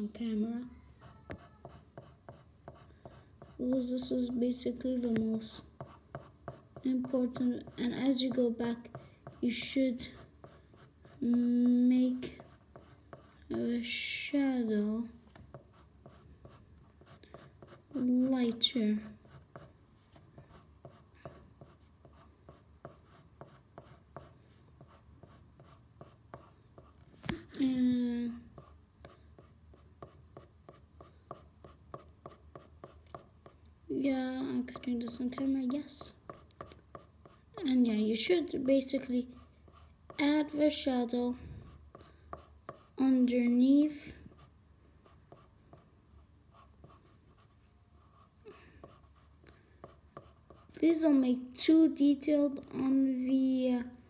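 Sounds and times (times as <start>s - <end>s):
pencil scratching on paper: 1.0s - 13.9s, 15.3s - 27.8s, 28.4s - 33.6s, 34.2s - 51.2s.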